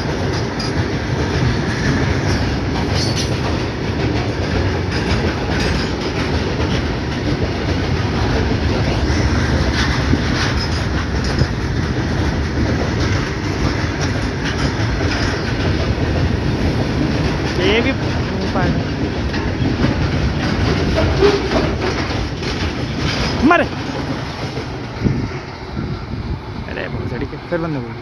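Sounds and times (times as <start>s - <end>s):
wheels clacking: 0.0s - 25.4s
train wheels rumbling on rail: 0.0s - 28.0s.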